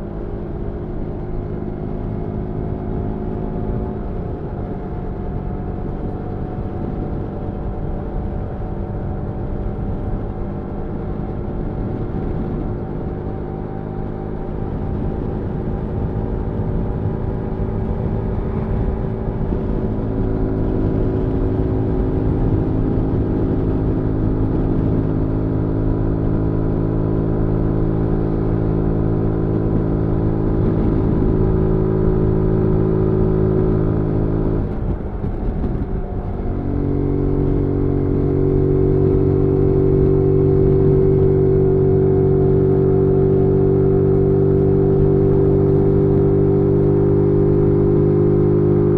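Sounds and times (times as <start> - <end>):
motorcycle engine under way: 0.0 - 48.9.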